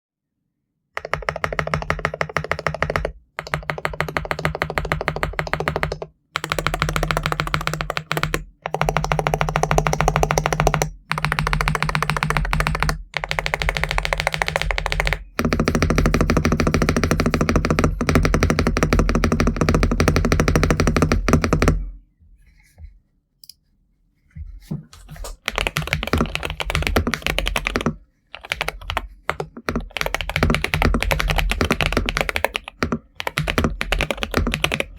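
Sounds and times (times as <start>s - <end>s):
mechanical keyboard typing: 1.0s - 21.8s, 25.2s - 34.9s.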